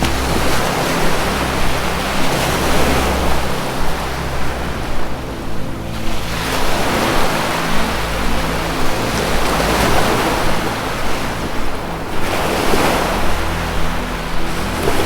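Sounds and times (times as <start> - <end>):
low sustained music drone: 0.0 - 15.0
ocean waves washing in: 0.0 - 15.0.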